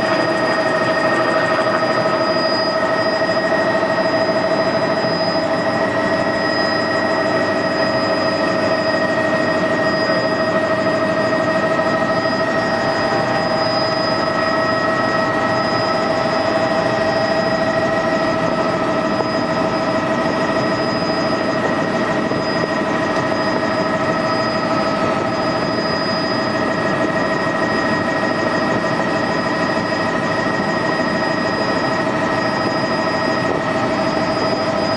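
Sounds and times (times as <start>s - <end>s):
helicopter drone: 0.0s - 34.9s
high whining tones: 0.0s - 34.9s.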